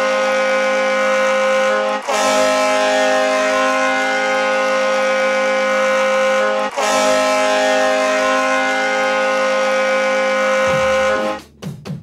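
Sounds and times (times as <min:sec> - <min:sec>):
goal horn blasting: 0:00.0 - 0:11.5.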